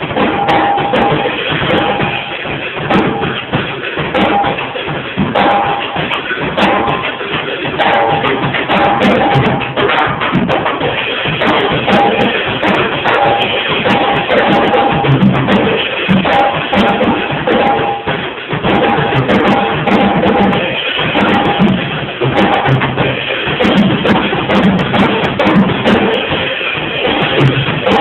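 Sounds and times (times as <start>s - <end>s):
drum kit groove: 0.0s - 28.0s.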